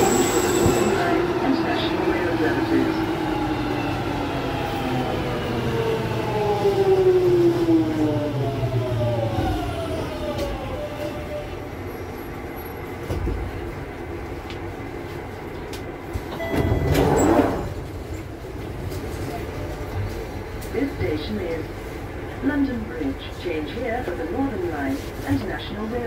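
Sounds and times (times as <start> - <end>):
wheels rumbling on track: 0.0 - 26.0.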